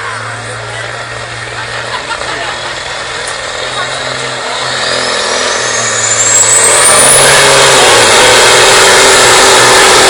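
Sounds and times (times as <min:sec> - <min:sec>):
high engine whine: 0:00.0 - 0:10.0
truck engine running under load: 0:00.0 - 0:10.0.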